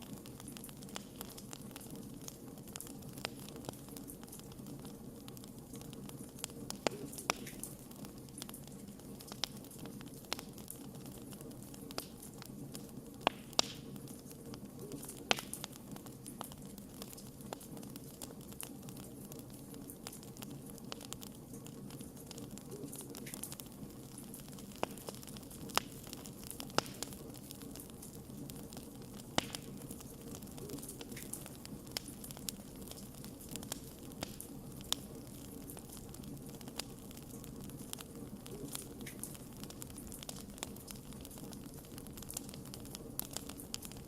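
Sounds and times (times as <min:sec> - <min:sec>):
low rush of burning logs: 0:00.0 - 0:44.0
wood fire crackling and popping: 0:00.0 - 0:44.0.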